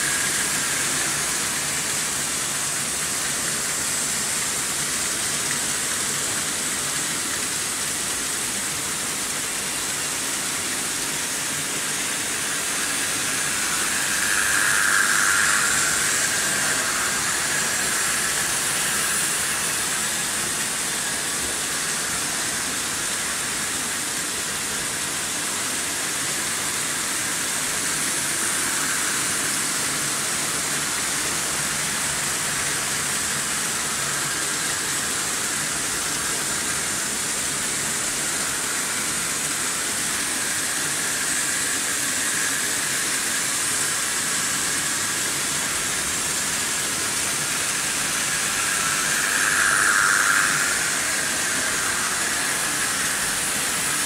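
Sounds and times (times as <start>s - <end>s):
model train wheels rolling on track: 0.0s - 8.6s, 9.4s - 25.0s, 26.2s - 54.0s
high motor whine: 0.0s - 54.0s.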